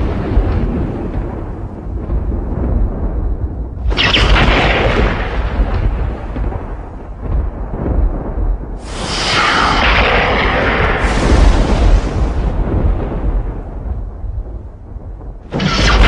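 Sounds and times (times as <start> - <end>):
deep rumble of thunder: 0.0 - 16.0
loud thunder cracks: 0.0 - 16.0.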